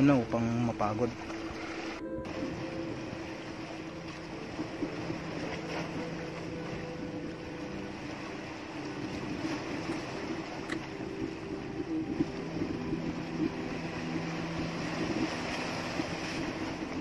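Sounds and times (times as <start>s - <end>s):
small boat engine humming: 0.0s - 17.0s.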